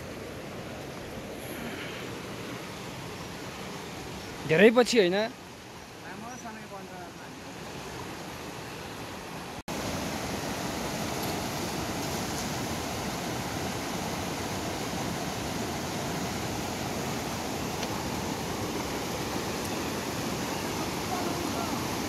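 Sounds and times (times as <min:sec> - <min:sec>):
river rapids rushing over boulders: 0:00.0 - 0:22.0.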